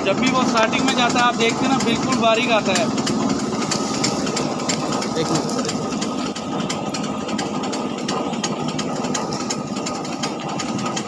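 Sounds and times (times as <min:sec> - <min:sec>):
conveyor rattling clicks: 0:00.0 - 0:11.0
wood chipper machine hum: 0:00.0 - 0:11.0.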